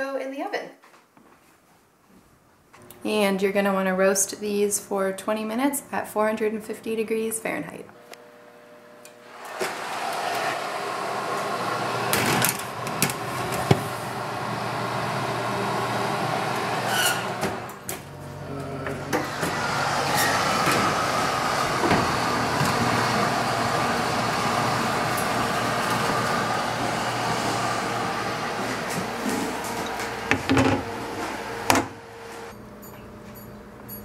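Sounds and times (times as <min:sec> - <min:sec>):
steady mechanical hum: 0:02.6 - 0:34.0.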